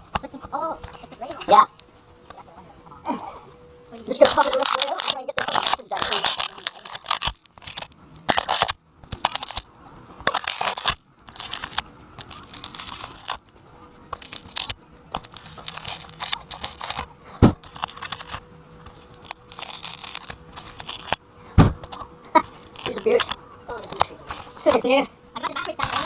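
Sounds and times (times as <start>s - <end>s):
crunching and rustling: 0.0s - 26.0s.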